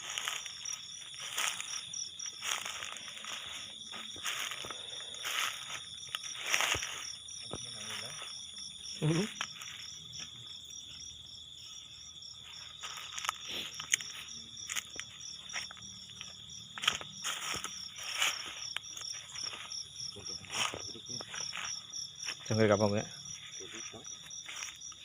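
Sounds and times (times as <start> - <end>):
crickets and insects chirping: 0.0 - 25.0
footsteps crunching dry vegetation: 0.0 - 25.0.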